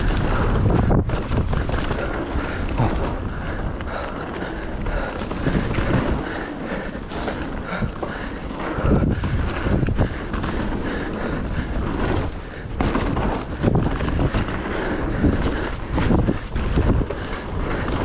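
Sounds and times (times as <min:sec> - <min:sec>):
bike rattling and knocking: 0:00.0 - 0:18.0
bike tyres rushing over dirt: 0:00.0 - 0:18.0
wind buffeting microphone: 0:00.0 - 0:18.0.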